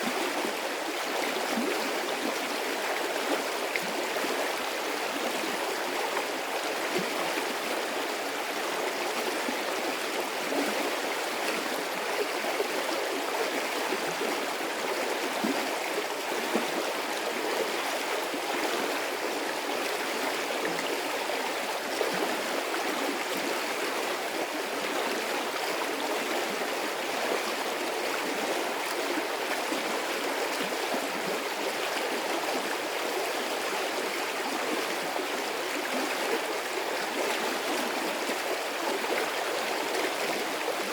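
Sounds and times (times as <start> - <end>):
stream of water flowing: 0.0 - 40.9.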